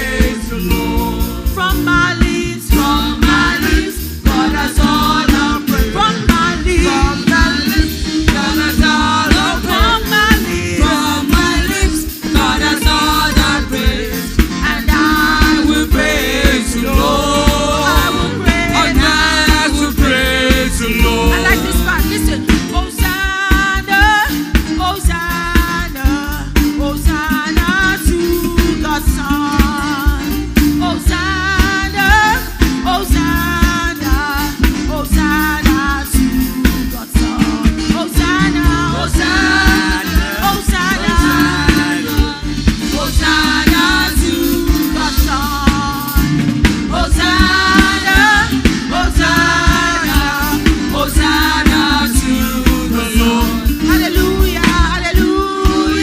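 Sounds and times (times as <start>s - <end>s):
band playing: 0.0s - 56.0s
drum kit rhythm: 0.0s - 56.0s
gospel singing voices: 0.0s - 56.0s.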